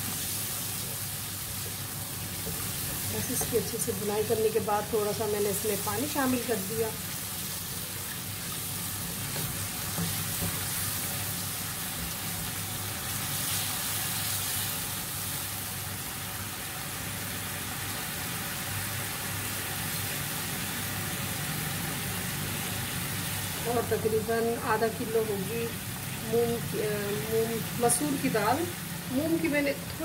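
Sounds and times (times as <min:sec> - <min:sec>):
masala sizzling in oil: 0:00.0 - 0:30.0.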